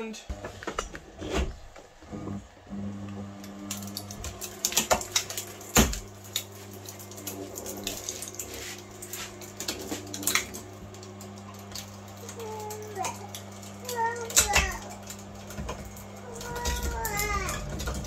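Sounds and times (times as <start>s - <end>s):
electric motor humming: 0.2s - 18.0s
wire crackling and snapping: 3.4s - 18.0s.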